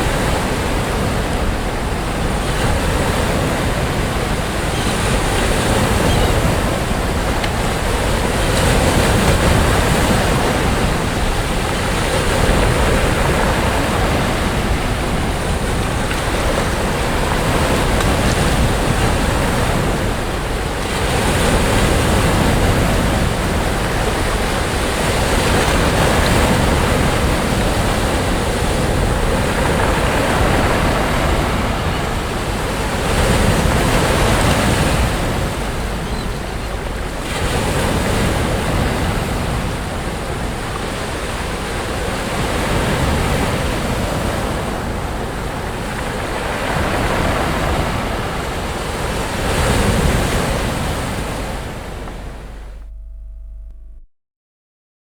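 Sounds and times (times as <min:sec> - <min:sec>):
sea waves breaking on beach: 0:00.0 - 0:52.9.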